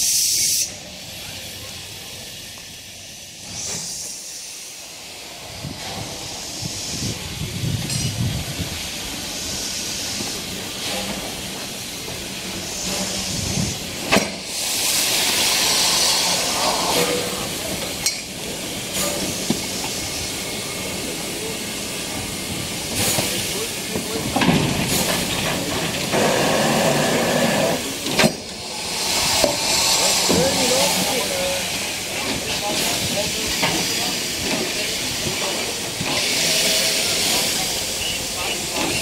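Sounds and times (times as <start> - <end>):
steam locomotive hissing: 0.0 - 39.0.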